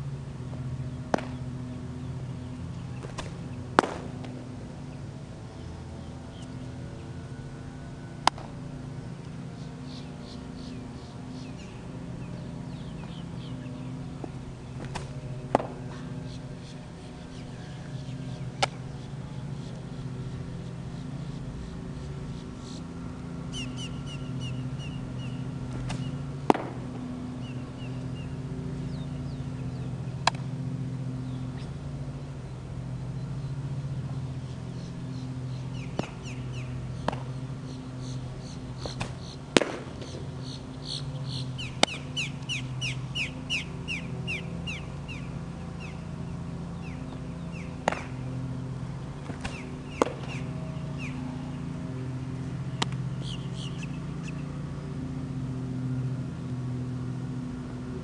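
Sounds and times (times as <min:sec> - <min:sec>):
steady low hum: 0:00.0 - 0:58.0
small birds chirping: 0:00.8 - 0:07.4, 0:09.3 - 0:26.3, 0:27.2 - 0:54.6.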